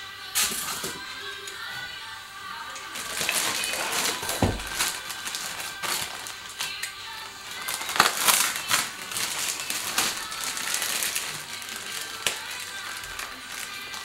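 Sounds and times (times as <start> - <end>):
plastic bag crinkling: 2.8 - 14.0.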